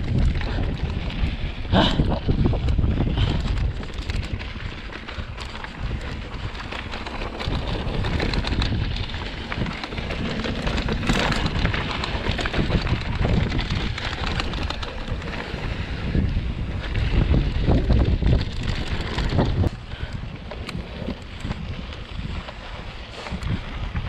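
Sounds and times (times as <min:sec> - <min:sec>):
bike rattling clicks: 0:00.0 - 0:24.0
wind buffeting microphone: 0:00.0 - 0:24.0.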